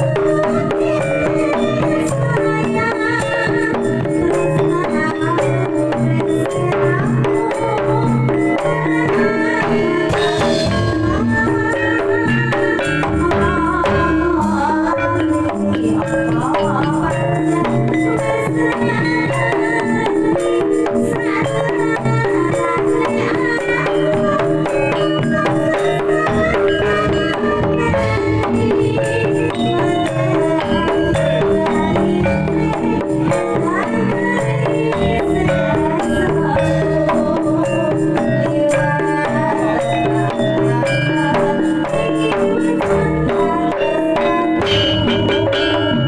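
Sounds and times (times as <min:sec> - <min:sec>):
hand drums playing: 0:00.0 - 0:46.0
tuned instruments melody: 0:00.0 - 0:46.0.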